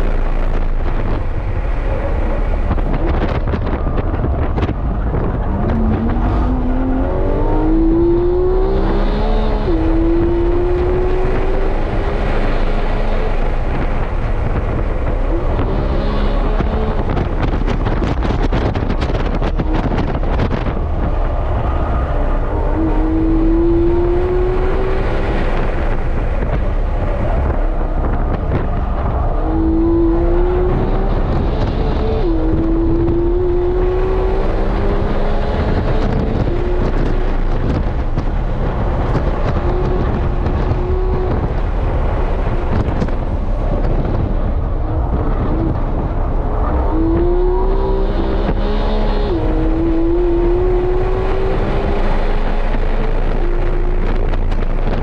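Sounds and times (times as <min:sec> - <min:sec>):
car engine accelerating and upshifting: 0:00.0 - 0:55.0
tyre and wind noise: 0:00.0 - 0:55.0.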